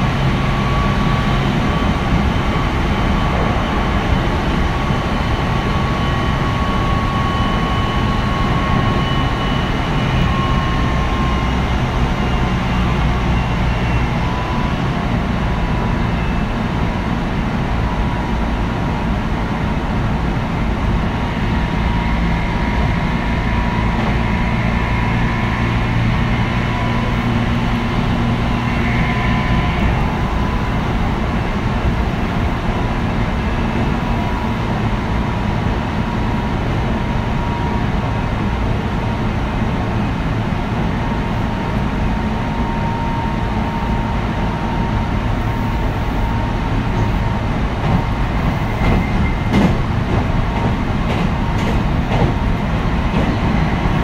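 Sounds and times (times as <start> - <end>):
electric train inverter whine: 0.0 - 54.0
train wheels rumbling: 0.0 - 54.0.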